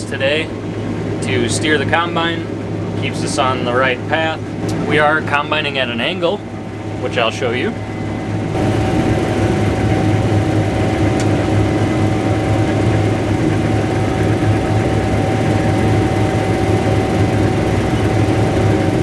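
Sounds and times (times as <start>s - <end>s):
combine harvester engine hum: 0.0s - 19.0s
steady machine whine: 0.0s - 19.0s.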